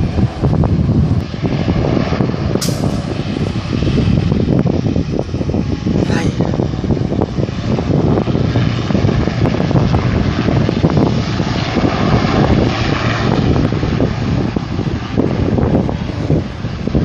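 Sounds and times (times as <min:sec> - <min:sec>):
propeller airplane engine running: 0:00.0 - 0:17.0
wind rumble on microphone: 0:00.0 - 0:17.0.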